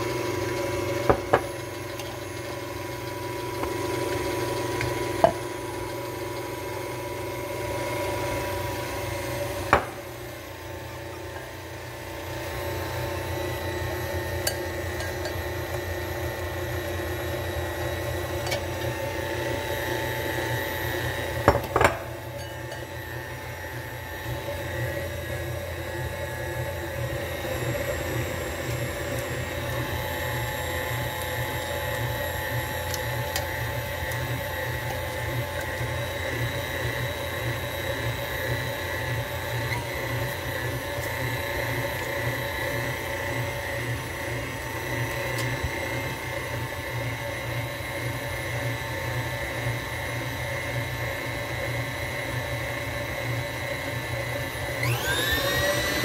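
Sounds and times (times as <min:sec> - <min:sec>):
stand mixer motor whine: 0:00.0 - 0:56.0.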